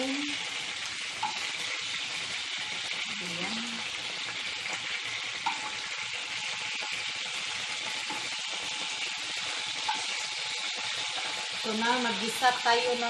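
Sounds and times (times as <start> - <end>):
oil sizzling in frying pan: 0.0 - 13.0.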